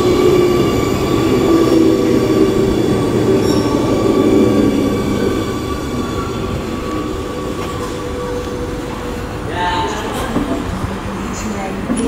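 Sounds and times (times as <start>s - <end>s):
metro train rumbling: 0.0s - 12.0s.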